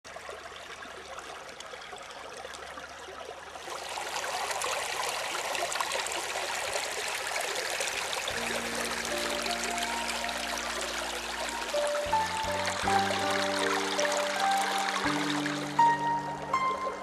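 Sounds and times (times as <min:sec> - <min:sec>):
brook running over rocks: 0:00.0 - 0:17.0.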